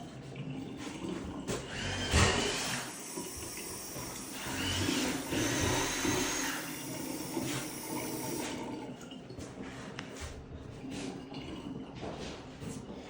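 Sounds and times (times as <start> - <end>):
water running from tap: 0.0 - 12.1.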